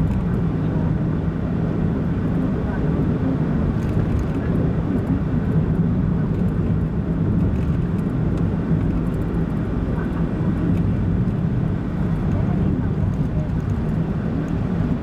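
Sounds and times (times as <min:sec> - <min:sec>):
car road noise from inside: 0:00.0 - 0:15.0.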